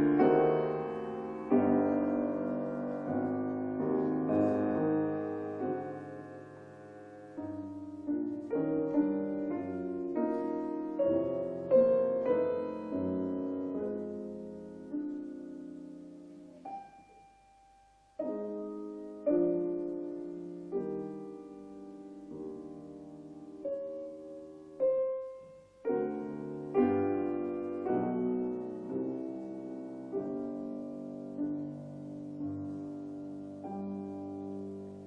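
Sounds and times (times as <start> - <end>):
piano playing slow chords: 0.0 - 35.0.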